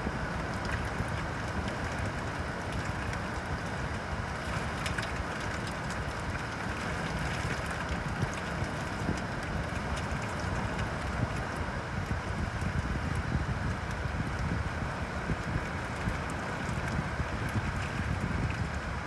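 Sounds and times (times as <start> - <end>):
constant low rumble: 0.0 - 19.0
steady rain falling: 0.0 - 19.0.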